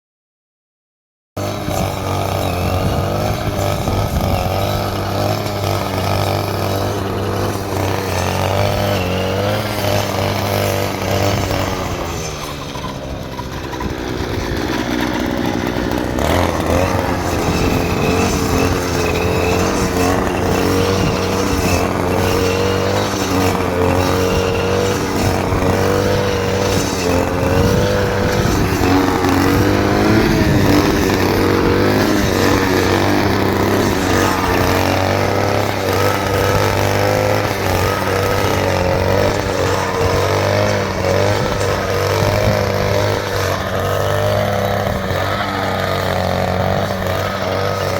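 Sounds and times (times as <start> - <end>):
small engine running: 1.4 - 47.9.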